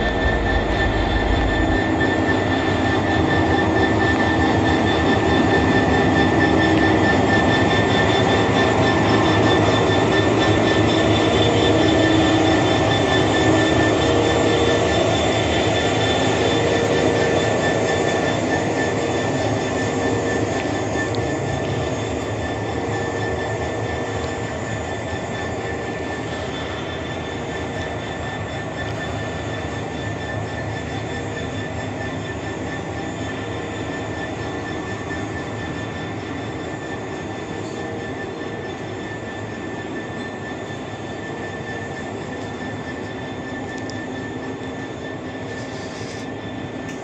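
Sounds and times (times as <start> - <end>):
diesel locomotive idling: 0.0 - 47.0
high-pitched whine: 0.0 - 47.0.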